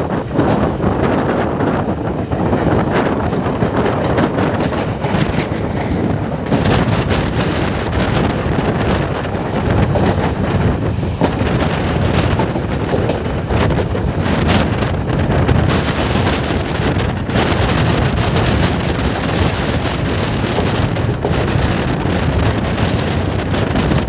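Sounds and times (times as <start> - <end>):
passenger train rumbling: 0.0 - 24.0
train wheels clattering on track: 0.0 - 24.0
wind buffeting microphone: 0.0 - 24.0.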